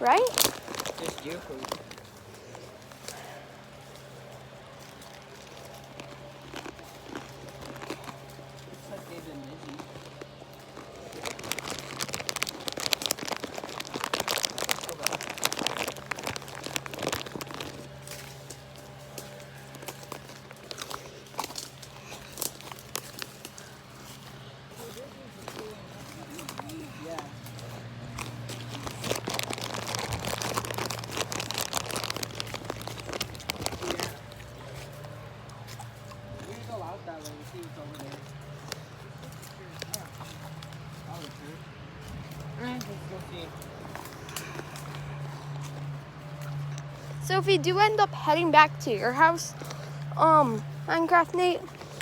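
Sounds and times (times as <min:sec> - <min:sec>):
dry leaves crunching underfoot: 0:00.0 - 0:52.0.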